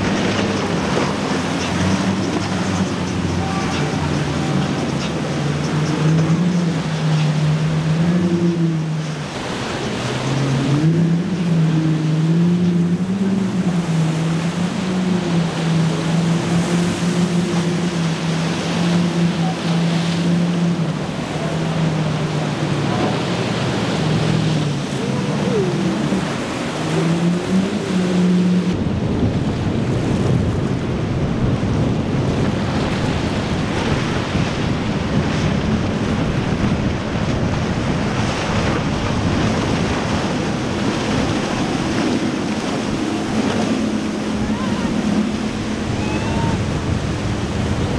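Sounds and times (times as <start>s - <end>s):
outboard engines running: 0.0s - 47.9s
surf noise: 0.0s - 47.9s.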